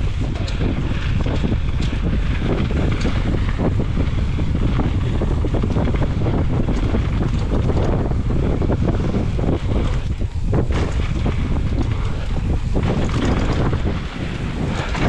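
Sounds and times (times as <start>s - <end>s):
bike rattles and clicks: 0.0s - 15.0s
bike tyres on dirt: 0.0s - 15.0s
wind rushing over microphone: 0.0s - 15.0s.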